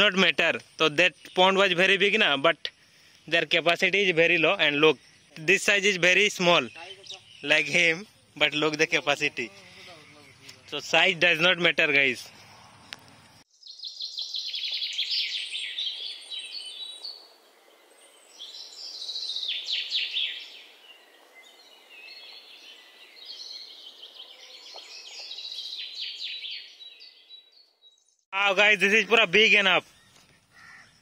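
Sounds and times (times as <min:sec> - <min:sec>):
outdoor ambience hiss: 0:00.0 - 0:27.2
songbirds chirping in trills: 0:00.0 - 0:31.0.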